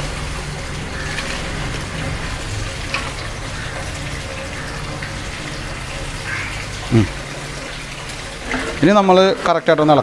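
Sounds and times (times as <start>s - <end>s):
water bubbling in a pot: 0.0s - 10.0s.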